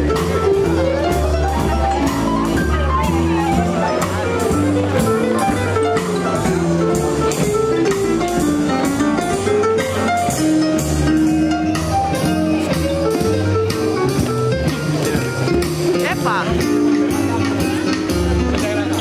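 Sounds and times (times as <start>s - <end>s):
guitar: 0.0s - 19.0s
steady drum beat: 0.0s - 19.0s
swing jazz band playing: 0.0s - 19.0s.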